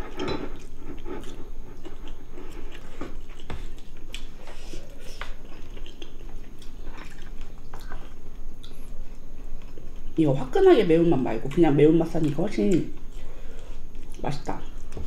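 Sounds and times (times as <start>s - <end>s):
wet chewing and mouth sounds: 0.0s - 10.2s, 11.2s - 15.0s.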